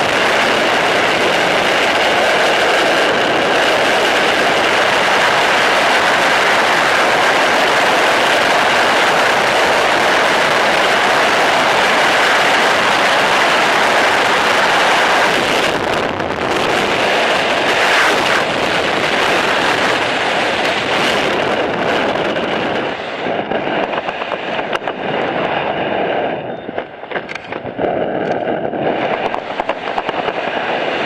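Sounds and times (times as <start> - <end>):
freefall wind roar: 0.0 - 31.0.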